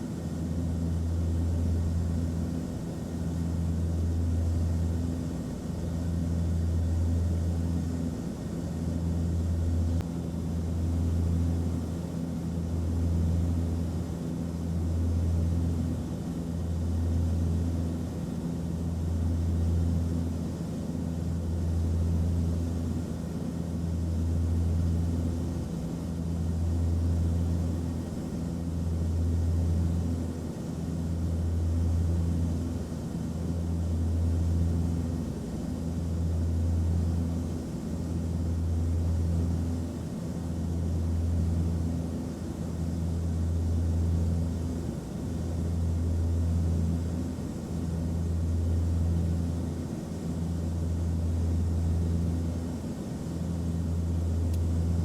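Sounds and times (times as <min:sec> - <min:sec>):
aircraft engine drone: 0:00.0 - 0:55.0
low pulsing hum: 0:00.0 - 0:55.0.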